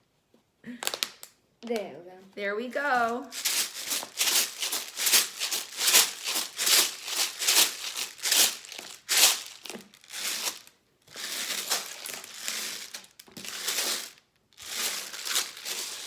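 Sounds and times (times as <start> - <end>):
rice rattling in plastic bottle: 2.9 - 16.0.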